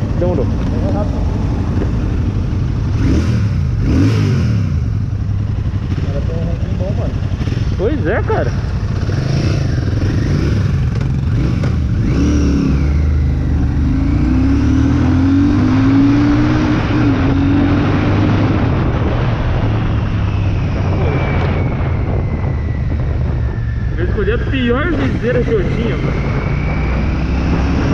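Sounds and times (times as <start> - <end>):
motorcycle engine accelerating: 0.0 - 27.9
rushing wind: 0.0 - 27.9.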